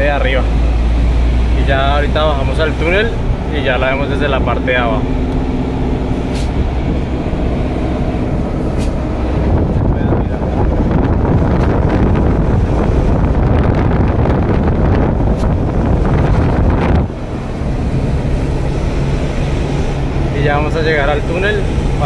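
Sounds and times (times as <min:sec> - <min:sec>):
vehicle engine rumble: 0:00.0 - 0:22.0
wind and road rush: 0:00.0 - 0:22.0.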